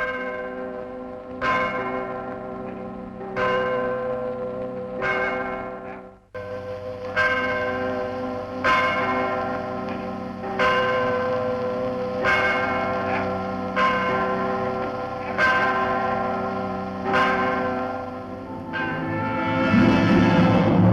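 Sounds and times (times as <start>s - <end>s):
church bell tolling: 0.0s - 20.9s.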